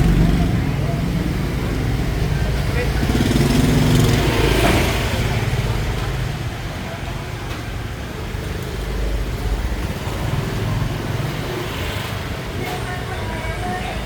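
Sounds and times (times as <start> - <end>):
steady road hum: 0.0 - 14.0
vehicle engines passing: 0.0 - 14.0.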